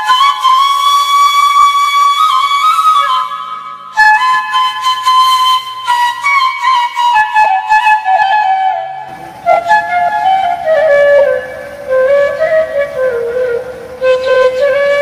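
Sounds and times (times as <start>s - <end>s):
flute-like melody: 0.0s - 15.0s.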